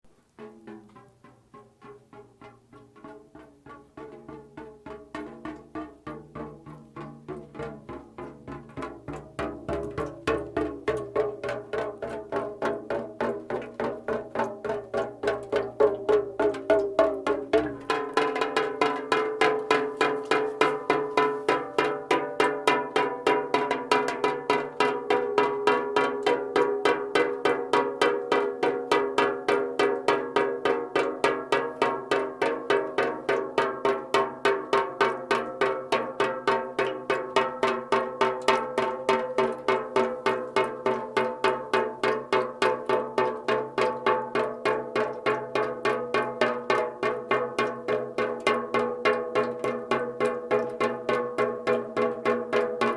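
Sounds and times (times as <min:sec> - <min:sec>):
raindrops dripping on metal can: 0:00.2 - 0:52.9.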